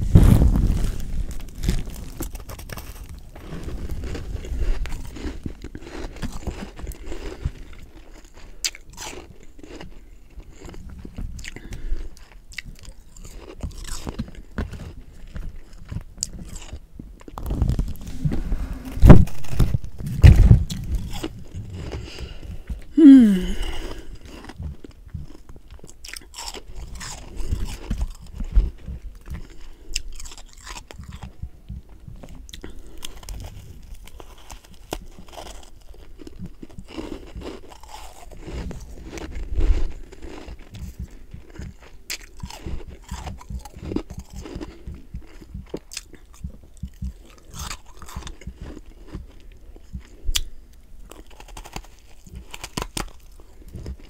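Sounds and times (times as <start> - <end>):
crunching and chewing frost: 0.0 - 54.0.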